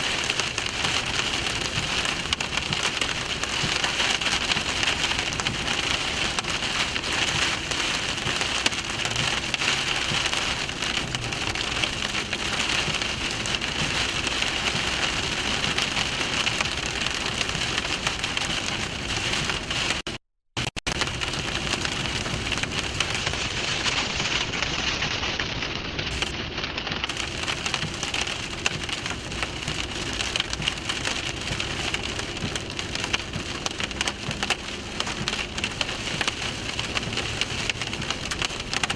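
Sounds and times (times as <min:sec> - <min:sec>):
heavy rain on a vehicle: 0:00.0 - 0:38.9.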